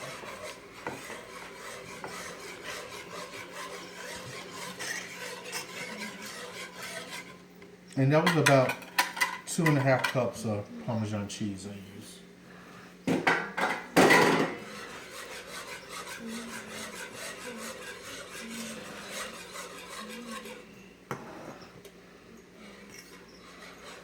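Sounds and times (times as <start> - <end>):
utensil scraping around pan: 0.0 - 11.1, 13.6 - 21.8, 22.6 - 24.0.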